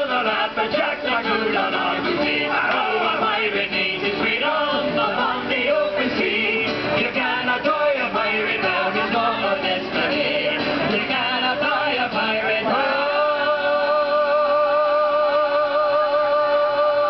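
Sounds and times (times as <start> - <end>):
acoustic guitar: 0.0 - 17.0
men singing sea shanty: 0.0 - 17.0.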